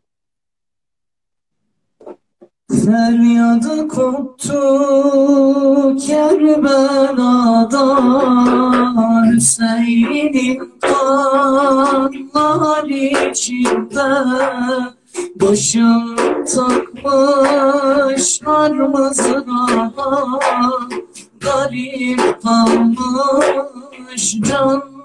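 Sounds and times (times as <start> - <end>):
young man singing unaccompanied: 2.7 - 25.0.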